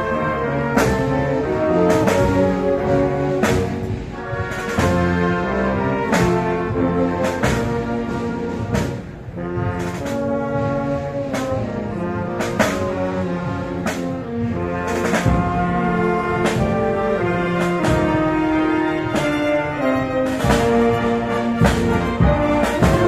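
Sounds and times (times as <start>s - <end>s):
brass band playing slow march: 0.0s - 23.0s
percussion strokes: 0.0s - 23.0s.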